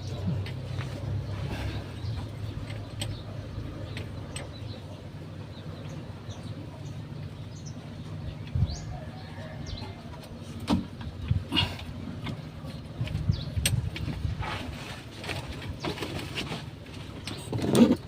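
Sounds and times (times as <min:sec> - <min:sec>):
steady low hum: 0:00.0 - 0:17.6
small birds chirping: 0:00.0 - 0:18.0.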